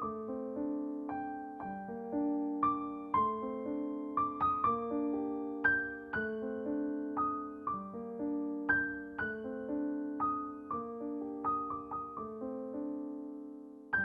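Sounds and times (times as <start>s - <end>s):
slow soft piano music: 0.0s - 14.0s.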